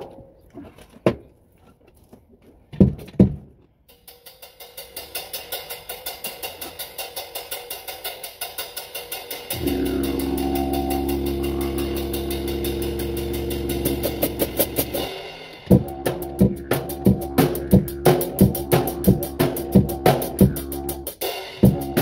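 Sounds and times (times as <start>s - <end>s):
drumstick tapping cymbal: 3.9s - 22.0s.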